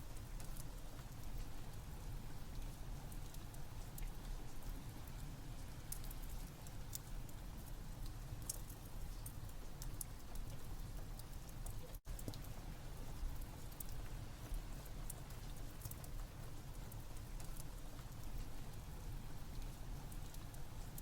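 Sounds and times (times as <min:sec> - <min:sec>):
steady rain: 0:00.0 - 0:21.0
wood fire crackling and popping: 0:02.5 - 0:07.4, 0:08.0 - 0:21.0.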